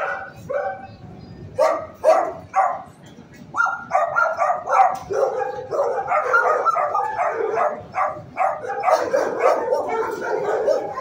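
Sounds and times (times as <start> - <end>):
many dogs barking: 0.0 - 11.0.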